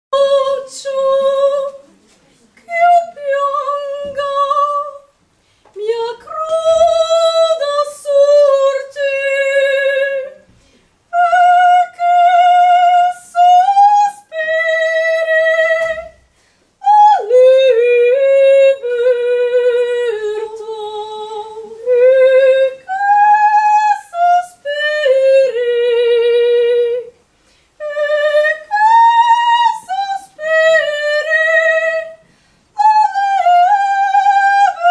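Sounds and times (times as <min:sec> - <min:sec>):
woman singing unaccompanied: 0:00.1 - 0:05.2, 0:05.8 - 0:34.9.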